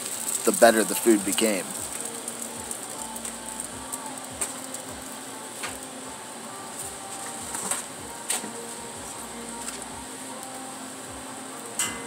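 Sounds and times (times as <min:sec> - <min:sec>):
egg sizzling on a griddle: 0:00.0 - 0:12.0
oil popping and crackling: 0:00.0 - 0:12.0.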